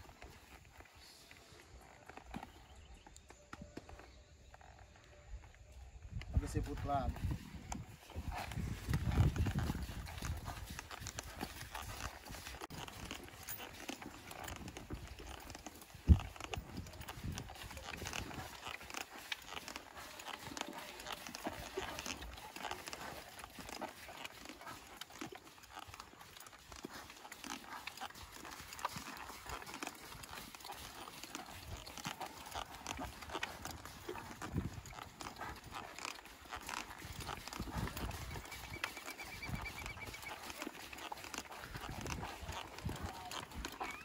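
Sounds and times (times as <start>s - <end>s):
horse hooves on ground: 0.0s - 44.0s.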